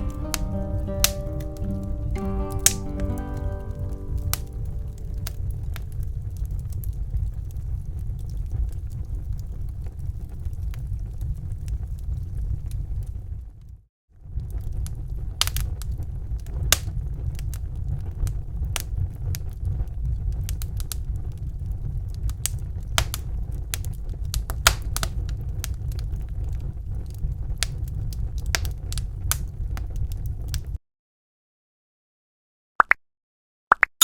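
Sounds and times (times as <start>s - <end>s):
low rumble of burning: 0.0s - 30.8s
wood fire popping and snapping: 0.0s - 30.8s.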